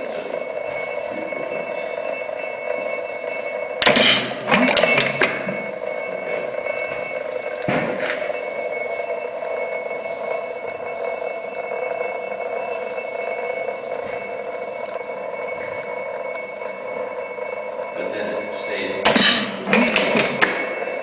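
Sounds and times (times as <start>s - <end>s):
gas engine whirring: 0.0s - 21.0s
high ringing tones: 0.0s - 21.0s.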